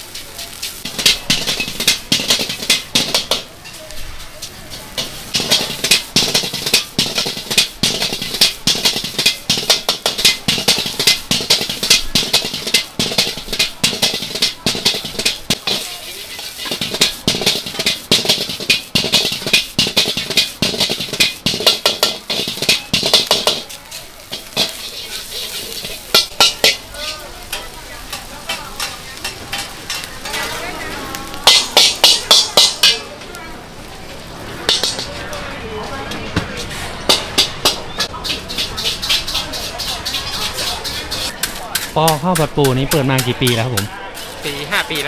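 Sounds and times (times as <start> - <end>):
frying sizzle: 0.0 - 45.0
metal spatula clanging on wok: 0.1 - 33.1, 34.6 - 36.2, 37.0 - 45.0.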